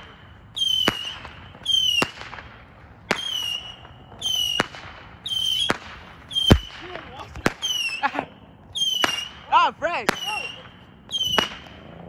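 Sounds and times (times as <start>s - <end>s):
fireworks whistling and cracking: 0.0s - 12.0s.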